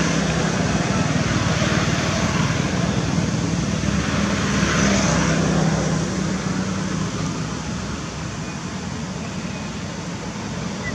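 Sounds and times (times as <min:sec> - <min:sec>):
road noise: 0:00.0 - 0:10.9.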